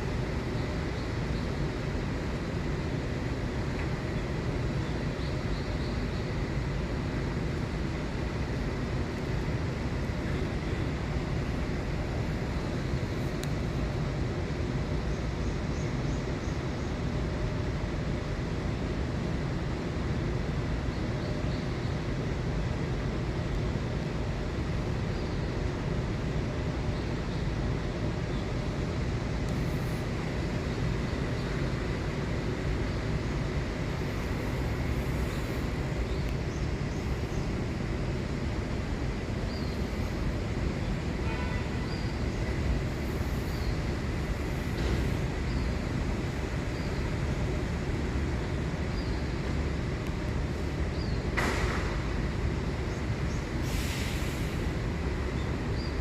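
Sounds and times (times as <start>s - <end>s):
low rumble of moving vehicle: 0.0s - 53.7s.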